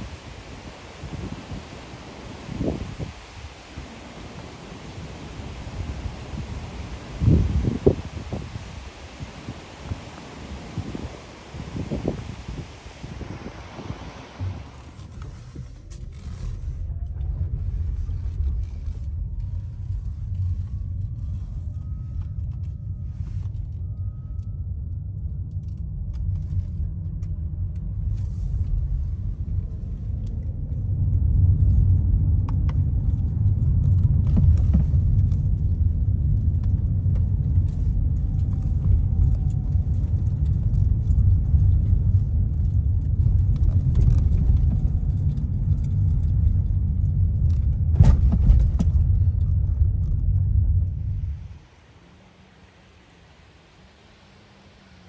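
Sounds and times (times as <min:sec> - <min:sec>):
car interior driving rumble: 0:00.0 - 0:55.0.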